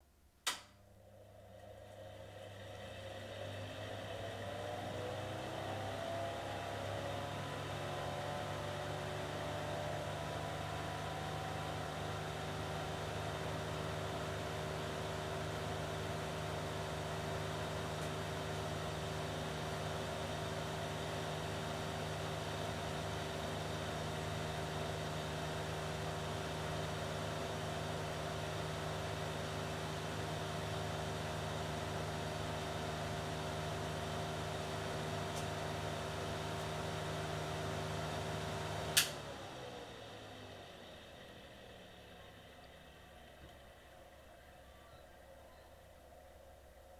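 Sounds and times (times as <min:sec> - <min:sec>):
exhaust fan hum and whir: 0:00.5 - 0:44.8.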